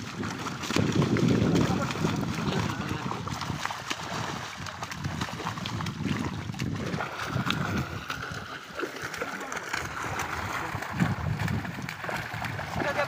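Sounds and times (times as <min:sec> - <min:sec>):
fish thrashing in water: 0:00.0 - 0:13.0
water sloshing and splashing: 0:00.0 - 0:13.0.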